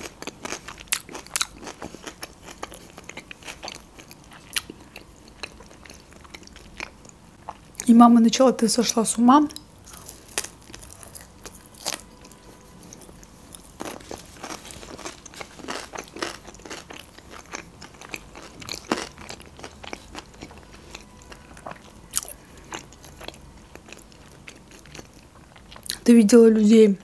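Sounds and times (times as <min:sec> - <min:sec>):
crunchy chewing: 0:00.0 - 0:07.8, 0:09.8 - 0:26.0.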